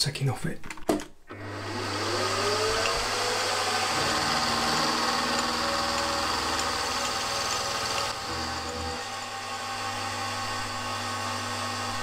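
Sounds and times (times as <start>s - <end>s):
end mill cutting metal: 1.3s - 12.0s
milling machine motor whine: 1.3s - 12.0s.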